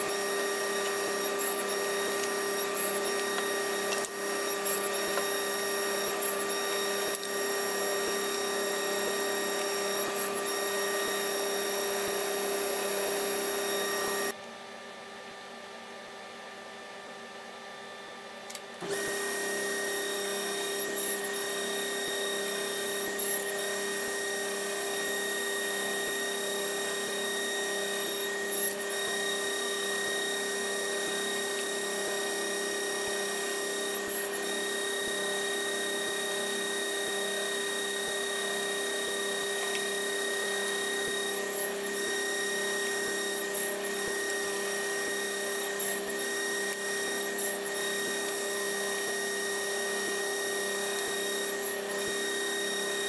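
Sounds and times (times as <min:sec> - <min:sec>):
table saw whining: 0:00.0 - 0:14.4, 0:18.8 - 0:53.0.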